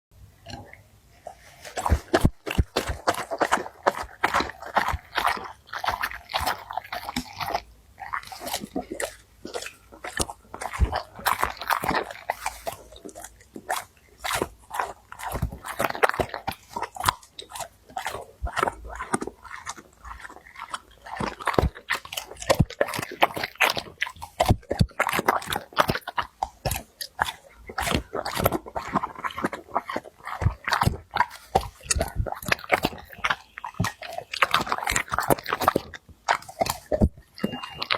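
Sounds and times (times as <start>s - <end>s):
dog eating and slurping: 0.4s - 37.9s.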